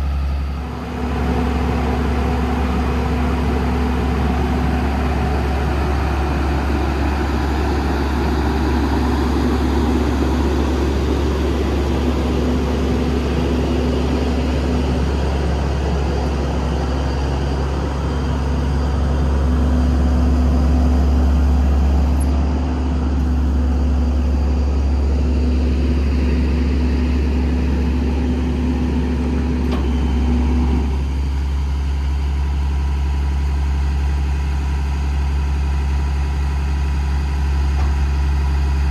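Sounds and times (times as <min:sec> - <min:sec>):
hydraulic pump whine: 0:00.0 - 0:33.0
diesel engine idling: 0:00.0 - 0:38.9.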